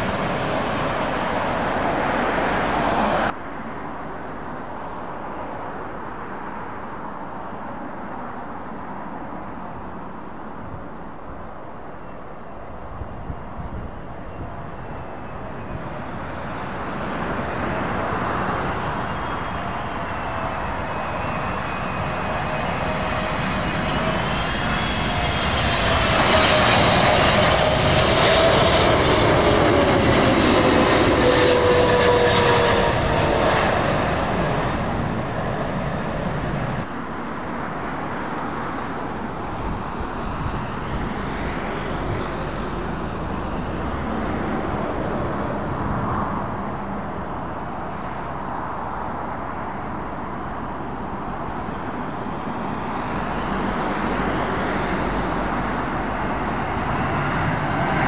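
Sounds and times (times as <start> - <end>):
approaching jet aircraft: 0.0 - 58.0
jet aircraft passing with whine: 0.0 - 58.0.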